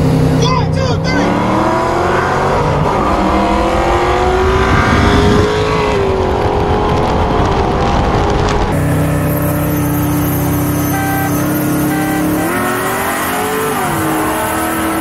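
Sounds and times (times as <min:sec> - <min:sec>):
car engines at full throttle: 0:00.0 - 0:15.0.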